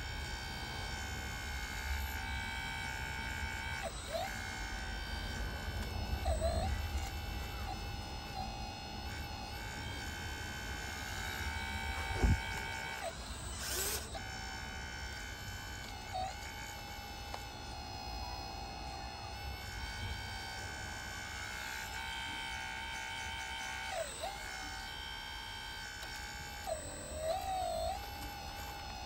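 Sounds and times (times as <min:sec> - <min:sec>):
hydraulic pump whining: 0:00.0 - 0:29.0.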